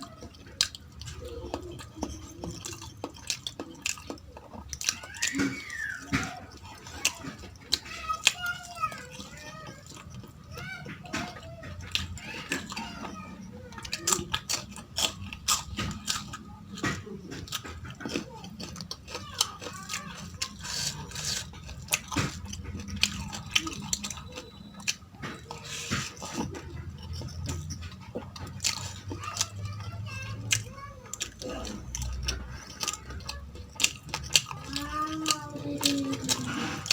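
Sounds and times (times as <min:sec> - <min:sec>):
chewing and crunching food: 0:00.0 - 0:36.9.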